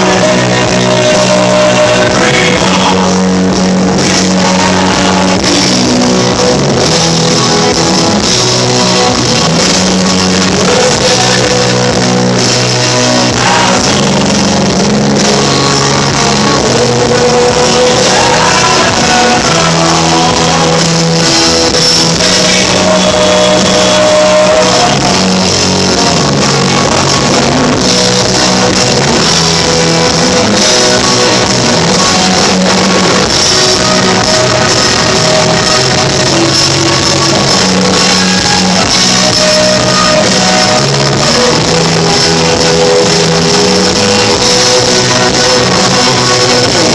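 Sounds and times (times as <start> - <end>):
bass and drums: 0.0 - 46.9
lead electric guitar bending notes: 0.0 - 46.9.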